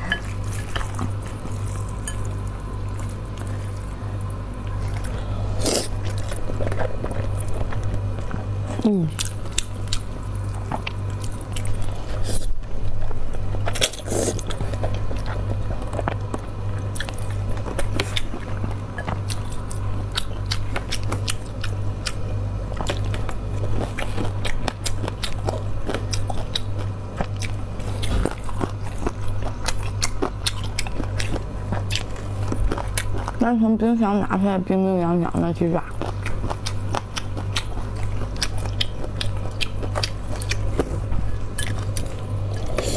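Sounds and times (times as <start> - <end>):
slurping and chewing noodles: 0.0 - 8.3, 9.2 - 22.2, 22.8 - 33.4, 35.8 - 42.9.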